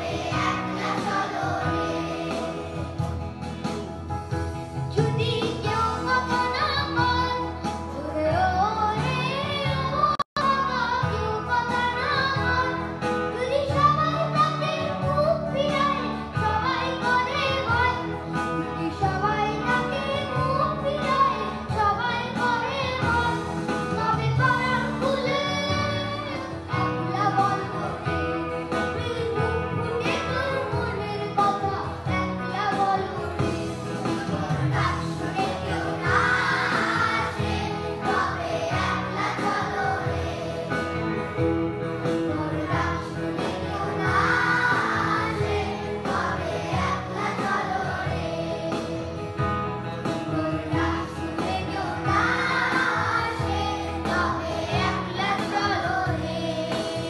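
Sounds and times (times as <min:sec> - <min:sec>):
children singing together: 0:00.0 - 0:03.2, 0:08.5 - 0:41.3, 0:42.0 - 0:57.0.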